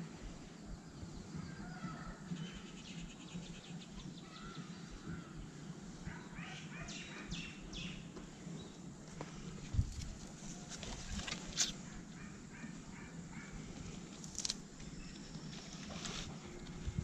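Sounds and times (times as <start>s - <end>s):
birds chirping faintly: 0.0s - 16.7s.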